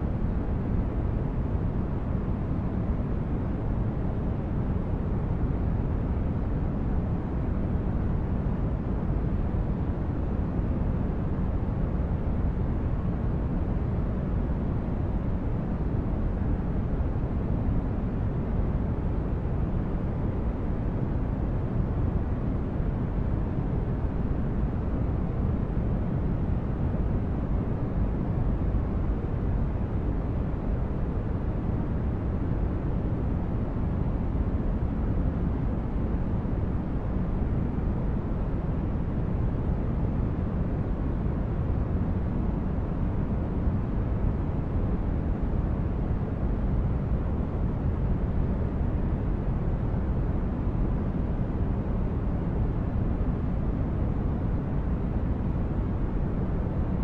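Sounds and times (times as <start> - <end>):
deep rumbling brown noise: 0.0 - 57.0.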